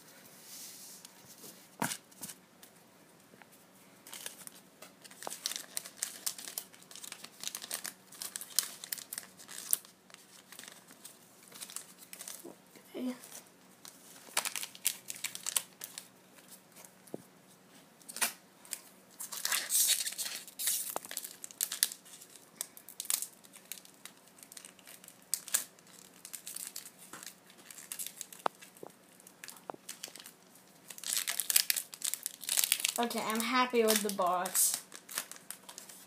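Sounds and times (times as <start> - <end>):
foil wrapper crinkling and tearing: 4.1 - 12.5, 13.2 - 16.1, 18.1 - 36.0.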